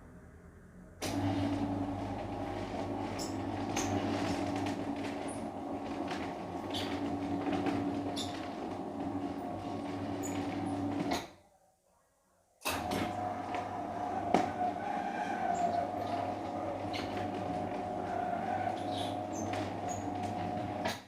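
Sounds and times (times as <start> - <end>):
metal roller shutter rattling: 1.1 - 11.1, 12.8 - 21.0.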